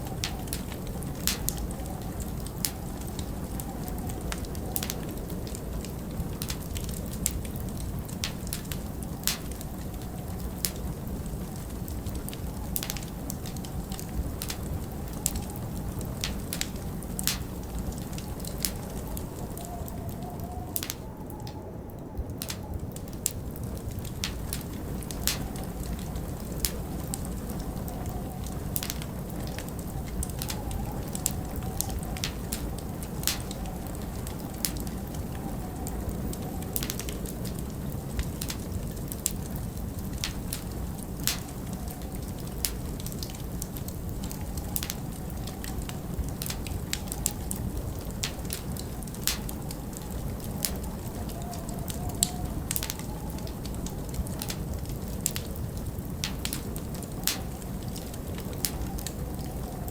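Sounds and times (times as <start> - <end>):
wind rushing and howling: 0.0 - 59.9
wood fire crackling: 0.0 - 59.9.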